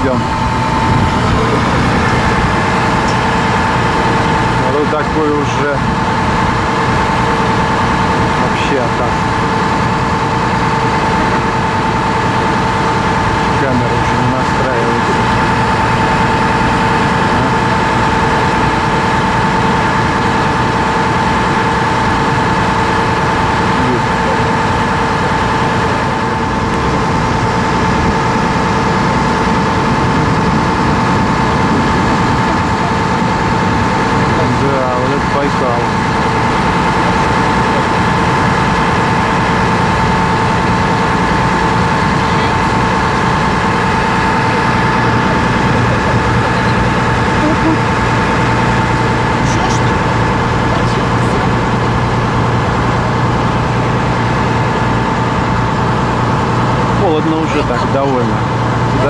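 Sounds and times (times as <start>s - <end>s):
boat engines droning: 0.0s - 59.0s
high whine: 0.0s - 59.0s.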